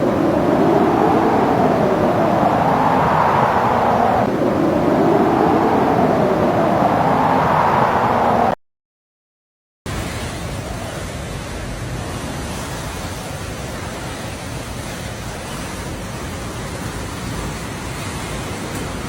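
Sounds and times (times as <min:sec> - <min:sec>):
wind blowing: 0:00.0 - 0:08.6, 0:09.9 - 0:19.0.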